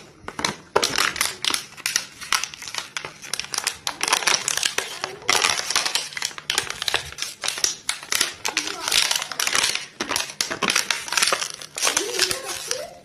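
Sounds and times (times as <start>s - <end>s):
dog chewing plastic bottle: 0.0s - 13.0s.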